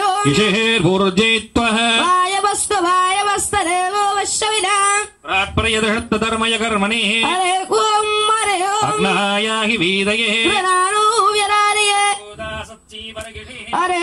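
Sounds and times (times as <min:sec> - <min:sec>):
high voice singing a hymn: 0:00.0 - 0:14.0.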